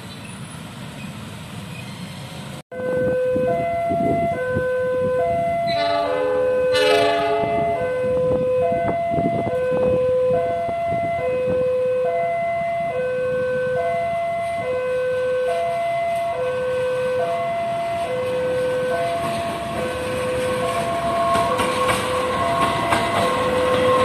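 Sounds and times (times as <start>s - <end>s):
diesel locomotive rumbling: 0.0s - 24.0s.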